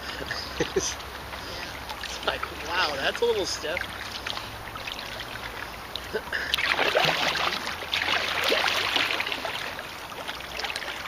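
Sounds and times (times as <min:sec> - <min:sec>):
paddle splashing water: 0:00.0 - 0:11.0.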